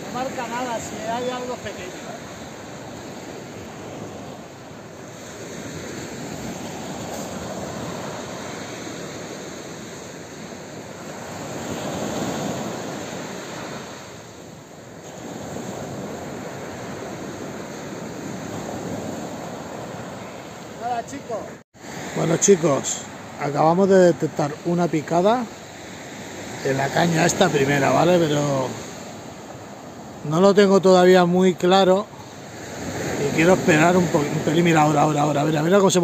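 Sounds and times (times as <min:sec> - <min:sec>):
small waves breaking on beach: 0:00.0 - 0:36.0.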